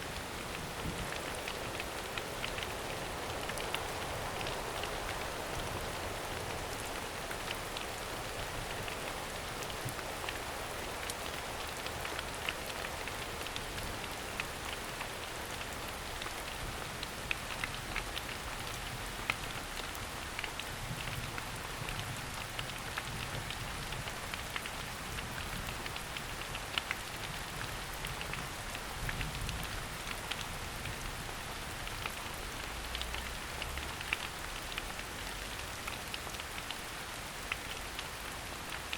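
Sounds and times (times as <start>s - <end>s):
rain on foliage: 0.0s - 38.9s.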